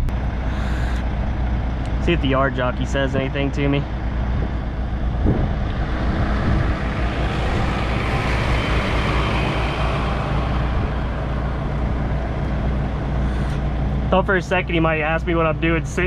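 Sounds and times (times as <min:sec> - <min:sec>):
low diesel engine hum: 0:00.0 - 0:16.0
tractor driving past: 0:00.0 - 0:16.0.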